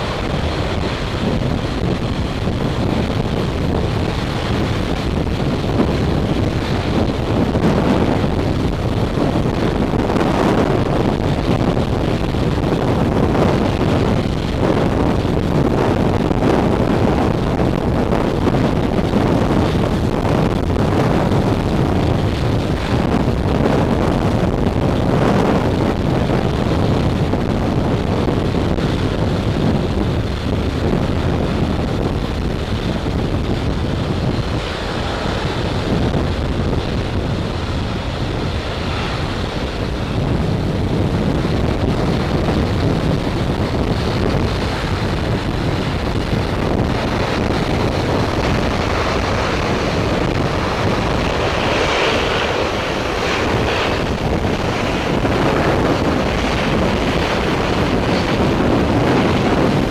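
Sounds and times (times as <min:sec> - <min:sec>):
gale wind buffeting microphone: 0:00.0 - 0:59.9.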